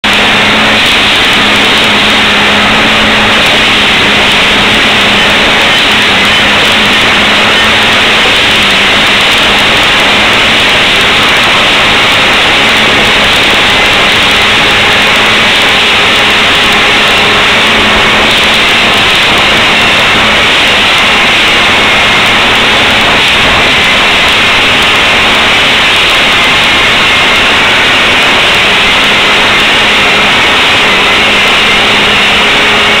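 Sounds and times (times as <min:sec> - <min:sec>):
railroad tamping machine running: 0:00.0 - 0:33.0.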